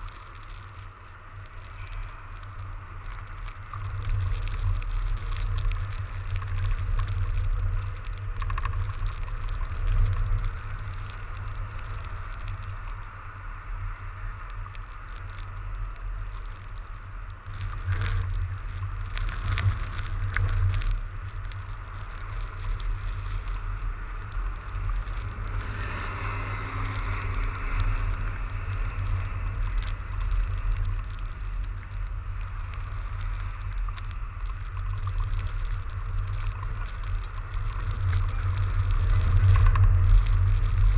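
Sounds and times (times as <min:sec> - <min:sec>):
bike tyres hissing on snow: 0:00.0 - 0:40.9.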